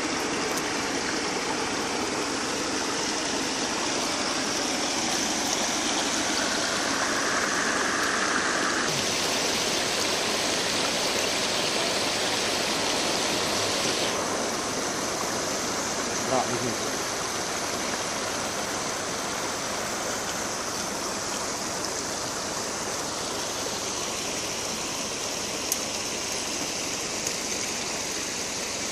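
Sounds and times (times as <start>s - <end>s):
stream water rushing: 0.0s - 28.9s.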